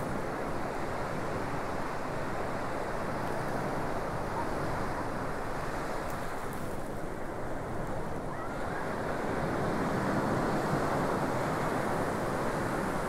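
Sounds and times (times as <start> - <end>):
surf on sandy beach: 0.0 - 13.0.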